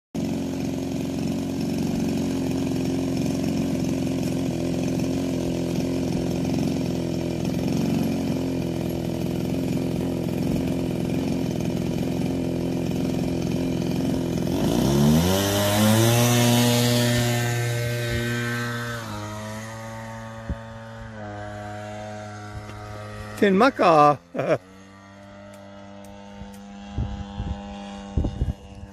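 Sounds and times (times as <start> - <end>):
model airplane engine: 0.2 - 28.9.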